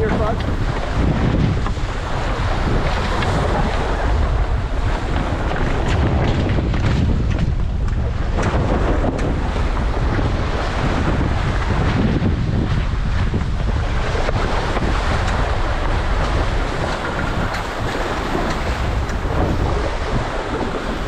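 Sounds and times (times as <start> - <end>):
choppy waves against hulls: 0.0 - 21.0
wind buffeting microphone: 0.0 - 21.0.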